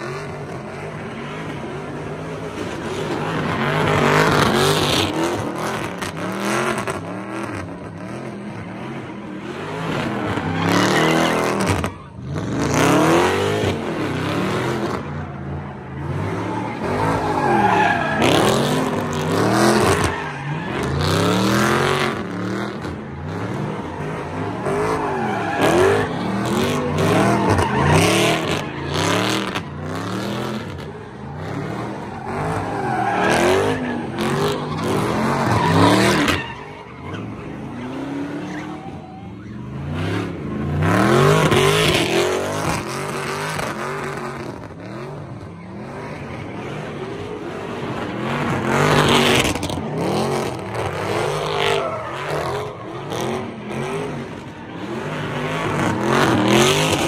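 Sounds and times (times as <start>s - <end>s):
car engine revving: 0.0s - 57.0s
tires screeching: 0.0s - 57.0s.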